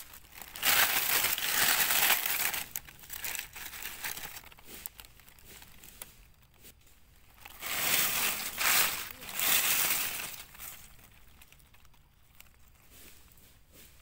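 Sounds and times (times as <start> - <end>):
dry leaves crackling and rustling: 0.0 - 14.0.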